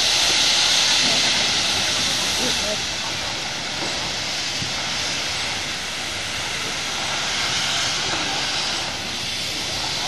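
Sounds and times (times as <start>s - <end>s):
steam hissing from locomotive: 0.0s - 10.0s.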